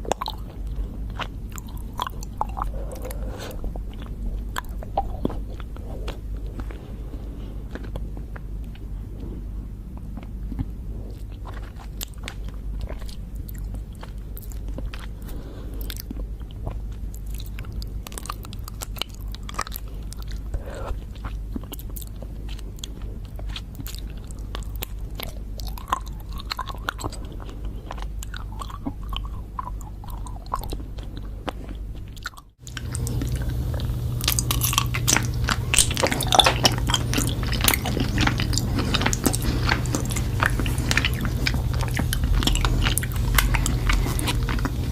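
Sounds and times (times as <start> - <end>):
chewing crunchy honeycomb: 0.0 - 44.9
steady low hum: 0.0 - 44.9.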